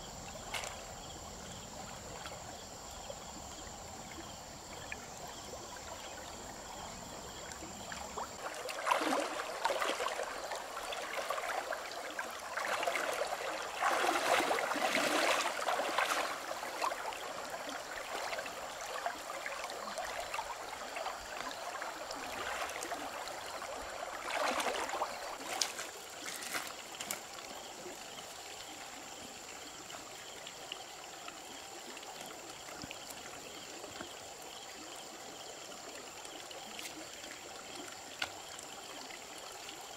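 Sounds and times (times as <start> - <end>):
stream running over stones: 0.2 - 39.9
water splashing and sloshing: 0.3 - 1.1, 3.6 - 39.9.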